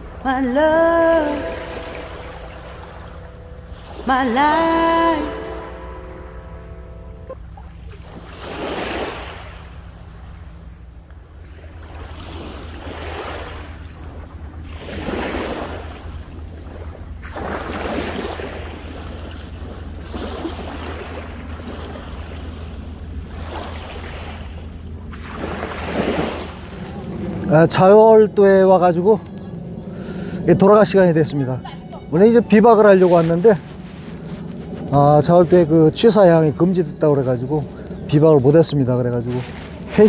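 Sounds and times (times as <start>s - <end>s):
small waves washing on beach: 0.0s - 29.2s, 30.0s - 40.0s.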